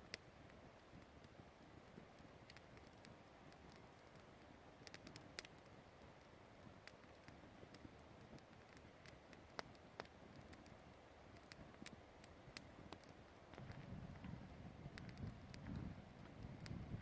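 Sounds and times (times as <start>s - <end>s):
campfire crackling: 0.0s - 17.0s
sharp pops and ticks: 0.0s - 17.0s.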